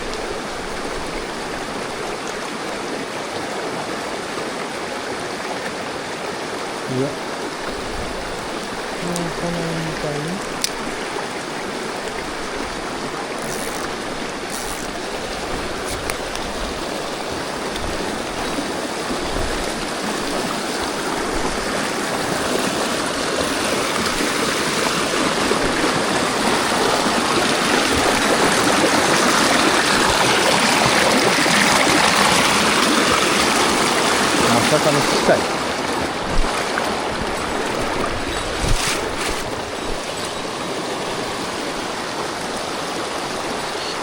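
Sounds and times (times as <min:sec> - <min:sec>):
water rushing over rocks: 0:00.0 - 0:44.0.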